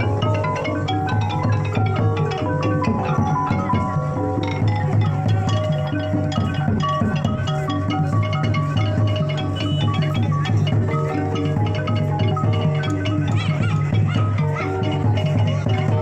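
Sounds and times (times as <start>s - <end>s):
mallet percussion melody: 0.0s - 16.0s.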